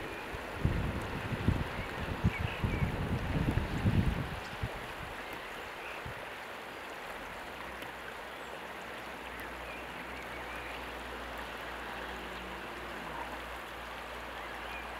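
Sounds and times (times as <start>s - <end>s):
river flowing along stony bank: 0.0s - 14.9s.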